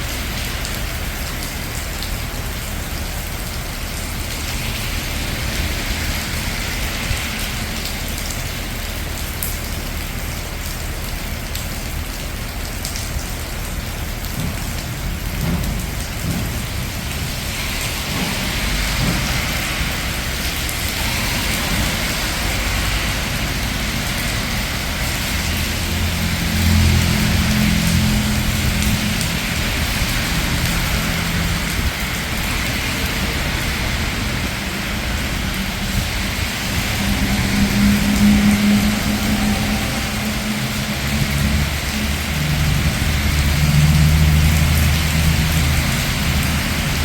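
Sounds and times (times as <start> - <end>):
rain hissing on a street: 0.0 - 47.0
traffic rumble: 0.0 - 47.0.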